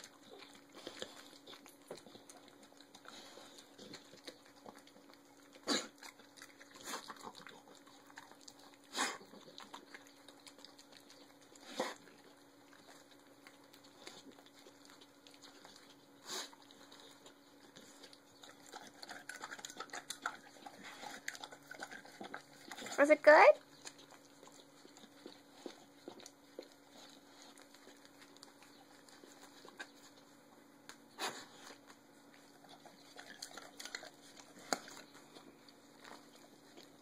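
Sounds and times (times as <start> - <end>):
dog chewing and crunching bone: 0.0 - 37.0.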